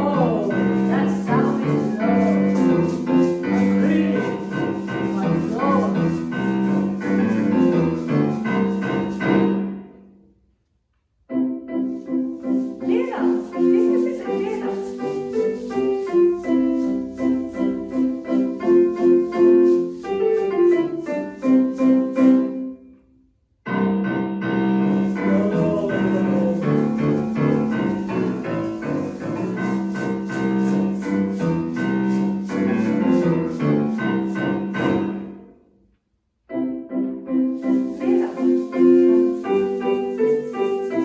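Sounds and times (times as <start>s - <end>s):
piano music: 0.0s - 10.2s, 11.2s - 23.0s, 23.7s - 35.6s, 36.4s - 41.0s.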